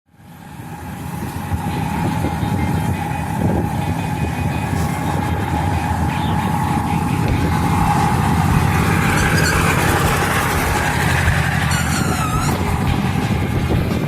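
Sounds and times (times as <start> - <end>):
steady whine: 0.1 - 14.0
low rumble: 0.4 - 14.0.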